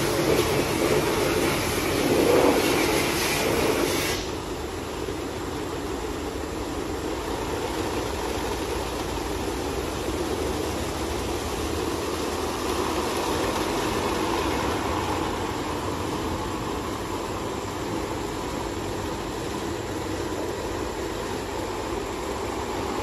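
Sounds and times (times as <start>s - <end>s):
car wash machine and water rush: 0.0s - 23.0s.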